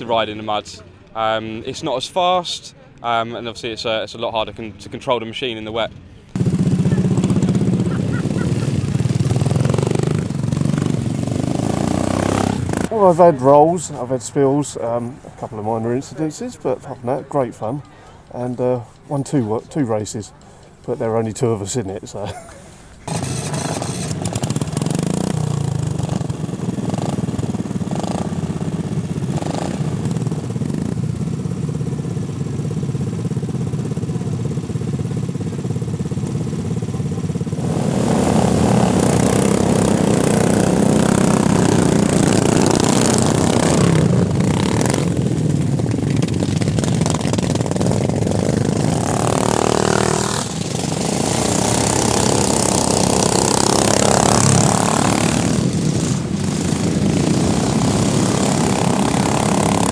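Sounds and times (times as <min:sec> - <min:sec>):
lawnmower engines running: 0:06.3 - 0:59.9.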